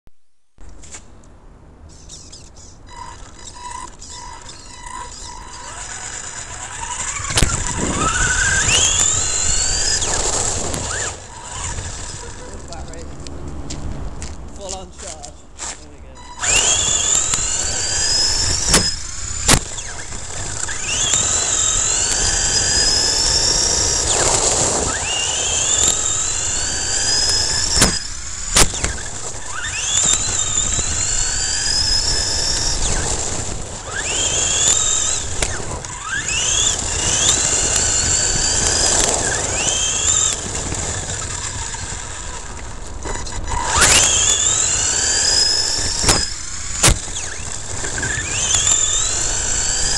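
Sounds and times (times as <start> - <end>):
toy truck motor whining: 1.8 - 13.0, 15.6 - 49.9
tyres crunching on gravel: 5.6 - 49.9.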